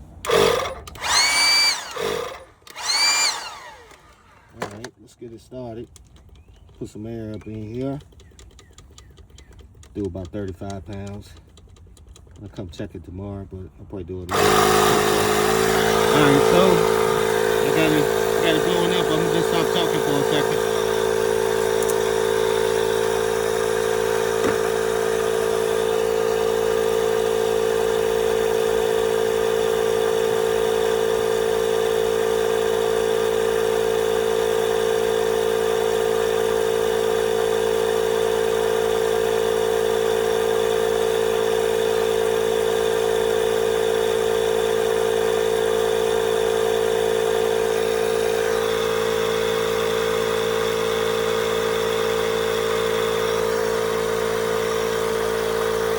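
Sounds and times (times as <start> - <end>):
tire inflator compressor humming: 0.0 - 4.9, 14.3 - 55.9.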